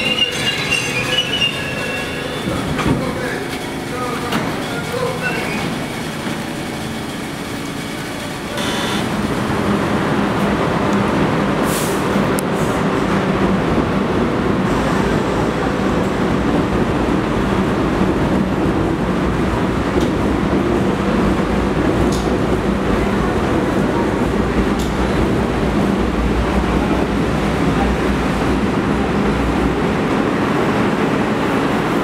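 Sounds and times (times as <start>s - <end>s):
subway train running: 0.0s - 32.0s.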